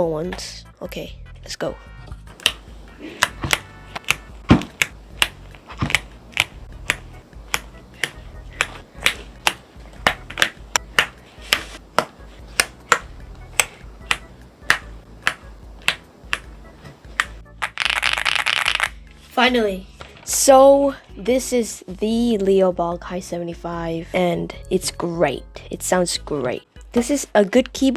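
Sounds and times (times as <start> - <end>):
background music: 0.0 - 27.9.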